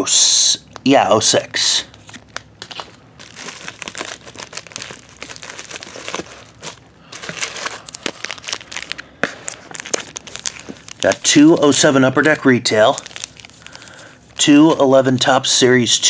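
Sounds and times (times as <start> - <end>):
plastic packaging crinkling: 1.9 - 15.3.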